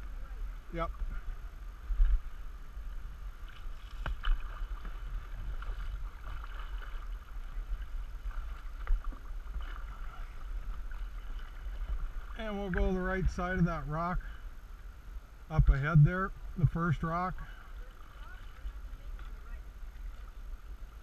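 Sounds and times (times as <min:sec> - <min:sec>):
water lapping around canoe: 0:00.0 - 0:15.0, 0:15.7 - 0:21.0
paddle strokes in water: 0:00.1 - 0:14.4, 0:16.4 - 0:21.0.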